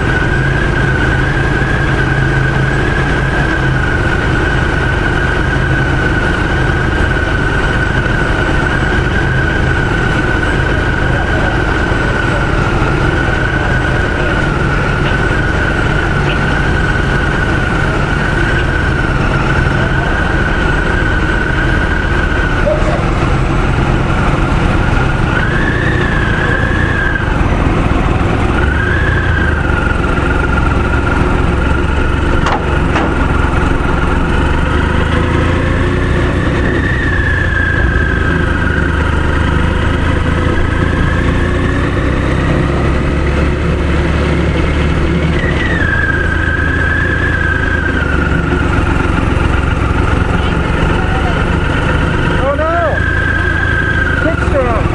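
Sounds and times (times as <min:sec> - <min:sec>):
high engine whine: 0:00.0 - 0:54.9
motorcycle engine rumbling: 0:00.0 - 0:54.9.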